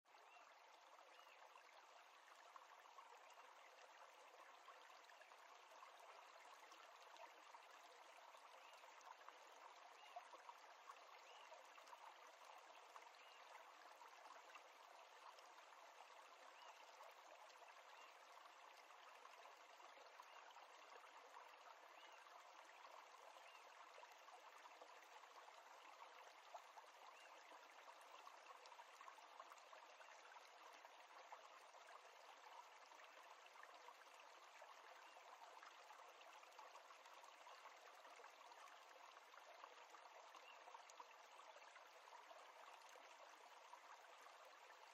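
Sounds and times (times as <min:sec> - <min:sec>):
faint steady hiss: 0:00.1 - 0:44.9.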